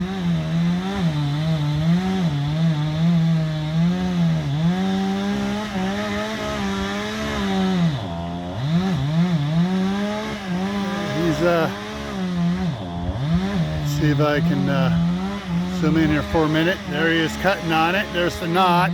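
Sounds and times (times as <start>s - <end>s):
chainsaw cutting wood at high revs: 0.0s - 18.9s.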